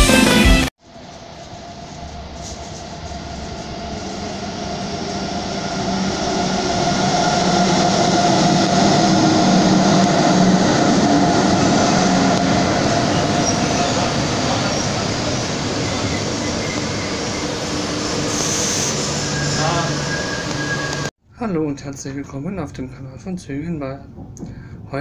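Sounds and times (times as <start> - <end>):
train interior rumble with electrical hum: 0.8 - 21.1.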